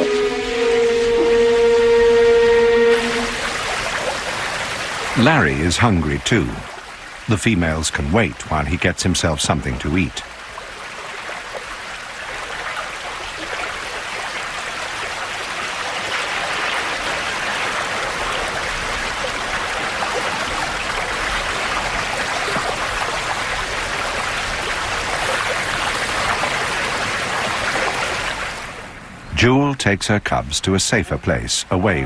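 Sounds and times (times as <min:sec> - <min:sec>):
river water rushing: 0:00.0 - 0:29.1.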